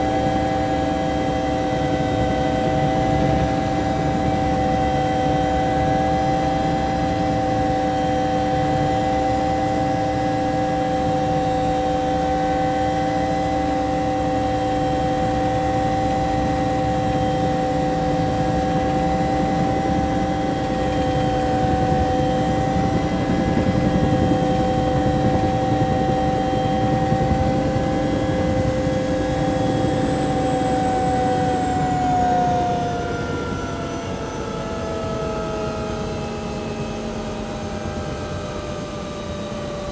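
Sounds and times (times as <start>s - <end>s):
helicopter rotor and engine rumble: 0.0s - 39.9s
high turbine whine: 0.0s - 39.9s.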